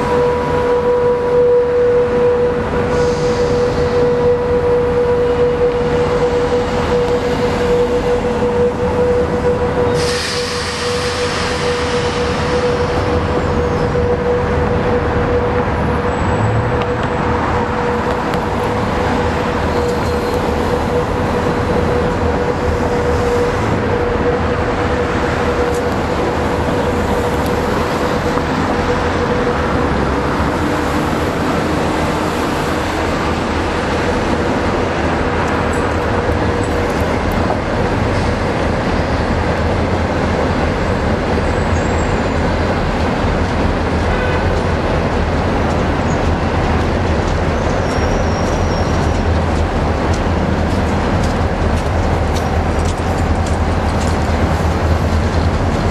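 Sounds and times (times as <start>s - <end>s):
locomotive engine rumble: 0.0s - 55.9s
wheel and rail noise: 0.0s - 55.9s.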